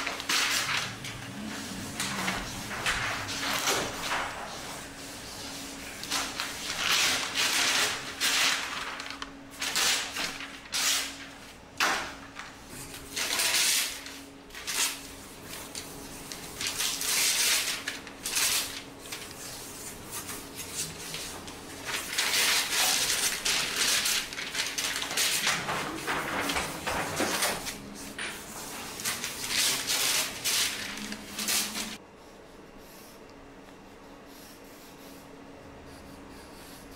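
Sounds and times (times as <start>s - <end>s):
paper rustling and crumpling: 0.0s - 32.0s.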